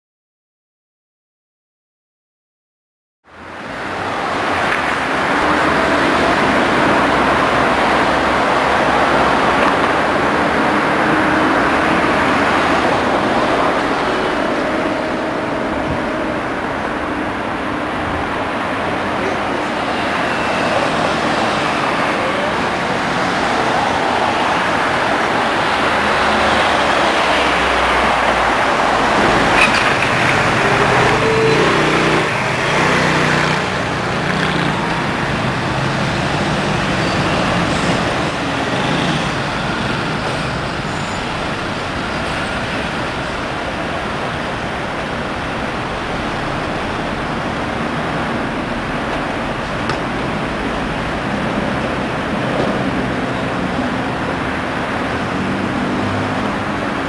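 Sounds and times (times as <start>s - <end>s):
cars and trucks passing: 3.3s - 57.0s.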